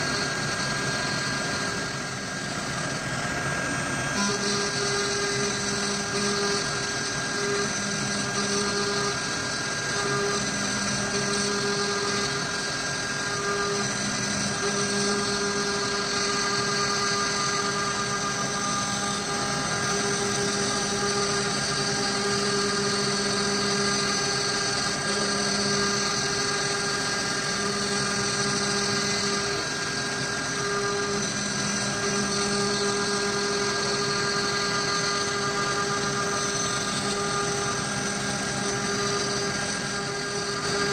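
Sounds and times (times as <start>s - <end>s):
end mill cutting wood: 0.0s - 40.9s
router spindle whine: 0.0s - 40.9s.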